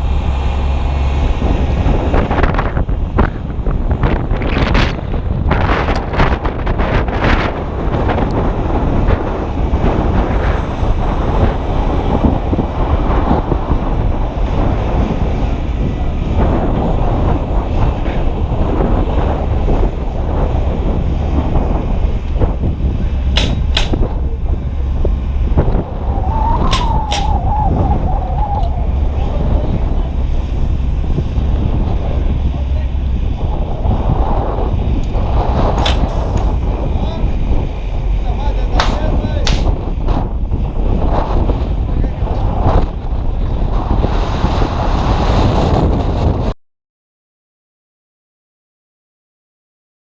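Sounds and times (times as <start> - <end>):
strong wind buffeting microphone: 0.0 - 46.6.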